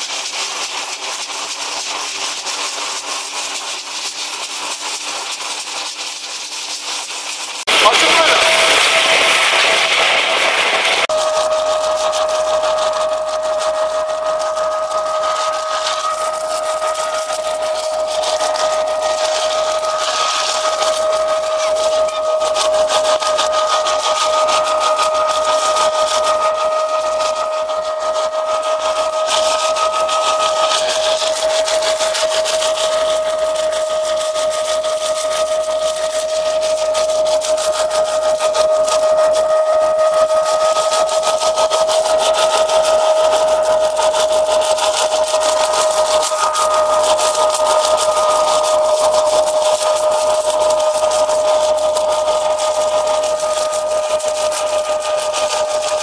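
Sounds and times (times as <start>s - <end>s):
threshing machine whining: 0.0s - 56.0s.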